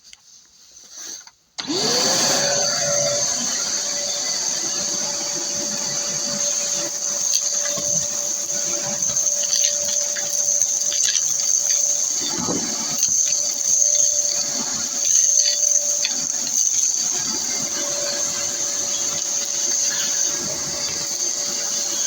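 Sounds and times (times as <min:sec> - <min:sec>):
vacuum cleaner whining: 0:00.9 - 0:22.0.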